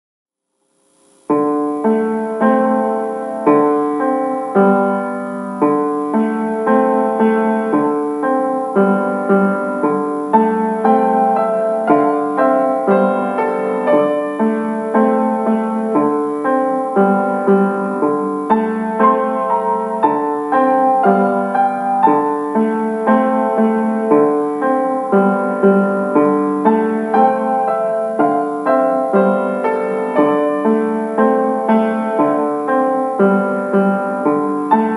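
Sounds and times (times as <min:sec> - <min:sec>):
piano music: 0:01.3 - 0:34.9.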